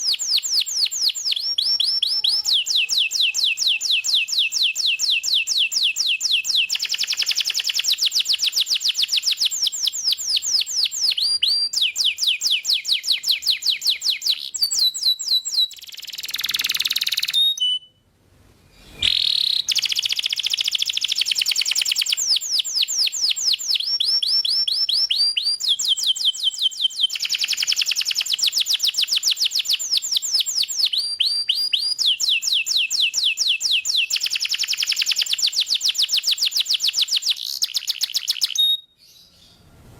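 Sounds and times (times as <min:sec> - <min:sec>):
canary singing trills: 0:00.0 - 0:18.0, 0:18.8 - 0:39.6.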